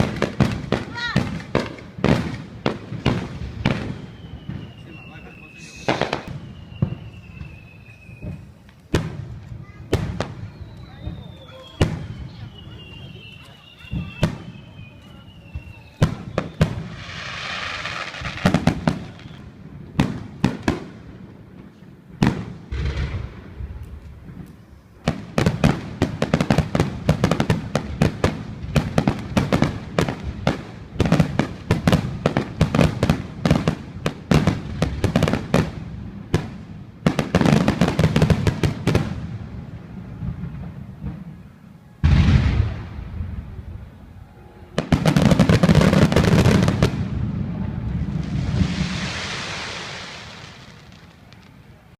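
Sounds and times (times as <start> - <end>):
firework bangs: 0.0 - 51.9
hissing crackle of fireworks: 0.0 - 51.9.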